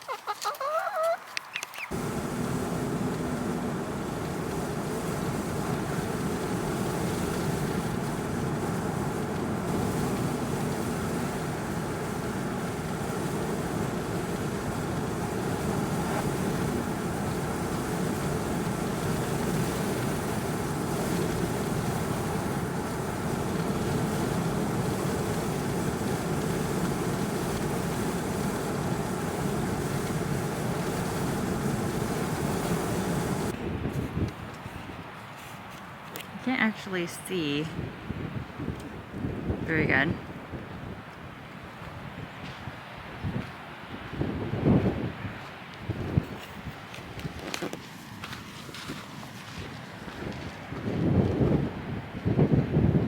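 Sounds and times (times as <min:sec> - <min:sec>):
minivan road and engine noise: 0:01.2 - 0:53.0.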